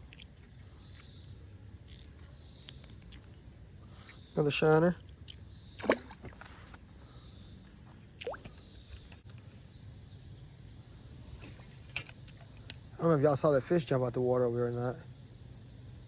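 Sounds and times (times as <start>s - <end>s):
insects chirping chorus: 0.0s - 16.0s.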